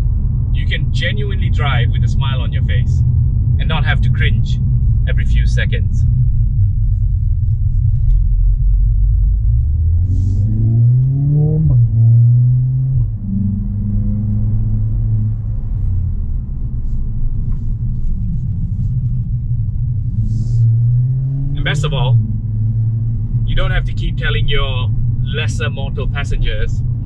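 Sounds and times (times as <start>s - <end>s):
car engine accelerating: 0.0s - 27.0s
road noise inside car: 0.0s - 27.0s.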